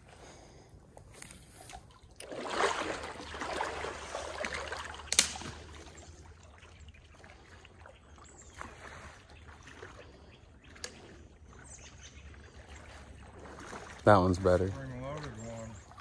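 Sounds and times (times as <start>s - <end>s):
water splashing and sloshing: 0.0s - 16.0s.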